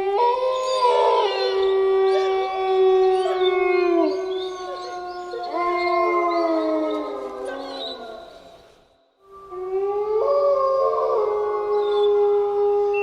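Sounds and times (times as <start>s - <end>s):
wolves howling: 0.0s - 13.0s.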